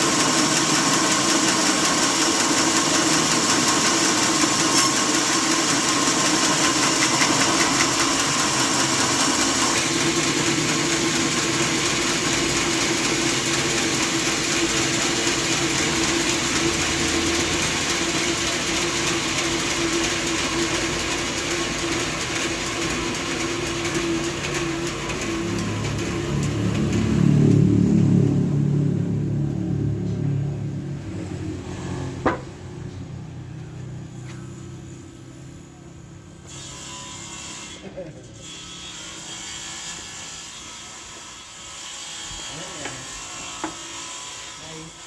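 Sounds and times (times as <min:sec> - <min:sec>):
sawmill machinery humming: 0:00.0 - 0:44.8.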